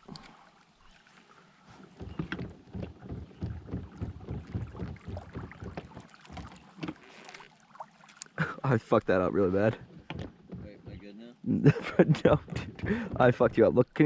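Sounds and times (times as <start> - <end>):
knocks and scrapes against kayak: 0.0 - 8.3, 9.2 - 14.0.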